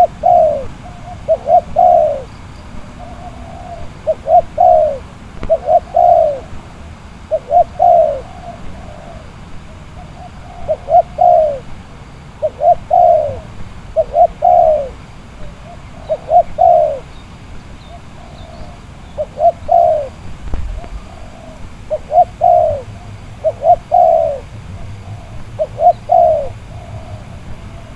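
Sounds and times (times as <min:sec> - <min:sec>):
dove cooing: 0:00.0 - 0:27.9.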